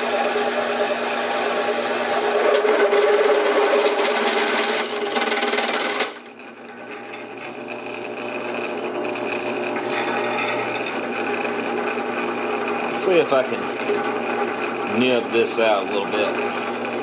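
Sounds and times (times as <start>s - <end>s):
drill press cutting metal: 0.0s - 17.0s
drill press spindle running free: 0.0s - 17.0s.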